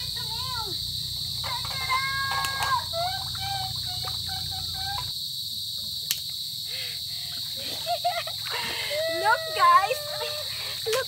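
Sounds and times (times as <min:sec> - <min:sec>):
insects buzzing at high pitch: 0:00.0 - 0:11.0.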